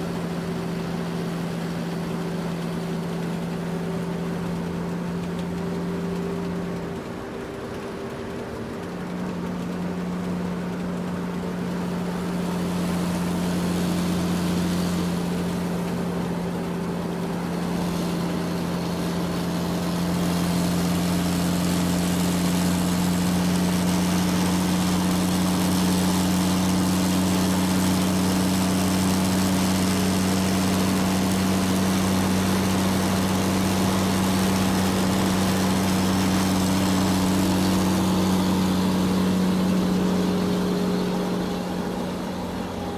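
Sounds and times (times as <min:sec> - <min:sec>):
diesel engine humming: 0:00.0 - 0:42.9.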